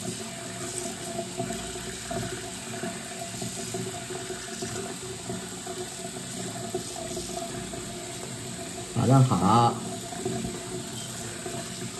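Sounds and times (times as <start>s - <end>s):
tap water running into sink: 0.0s - 11.9s.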